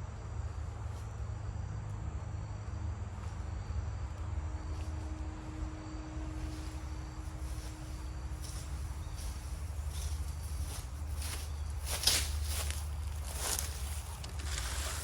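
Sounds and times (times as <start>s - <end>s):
insects trilling: 0.1s - 15.0s.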